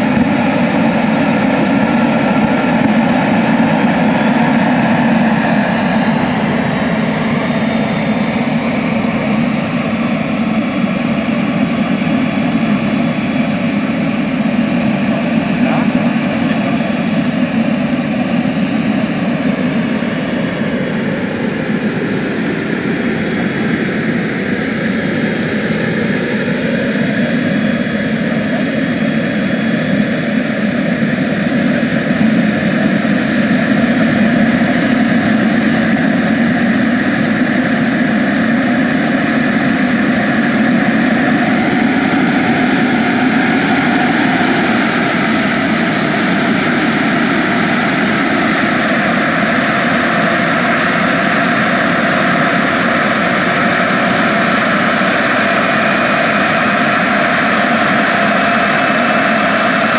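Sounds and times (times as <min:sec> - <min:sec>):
high turbine whine: 0:00.0 - 0:59.9.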